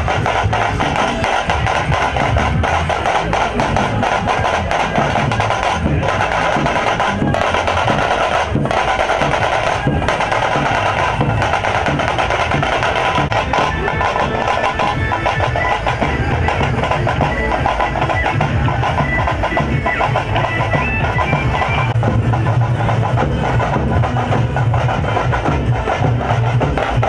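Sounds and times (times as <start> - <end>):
loud drumming: 0.0 - 27.0.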